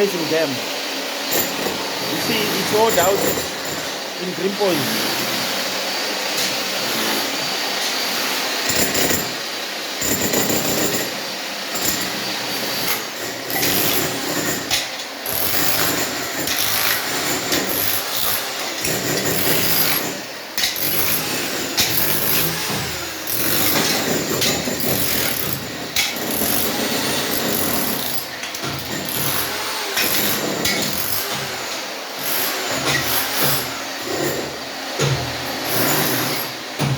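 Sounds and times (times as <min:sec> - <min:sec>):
power tool running in bursts: 0:00.0 - 0:36.9.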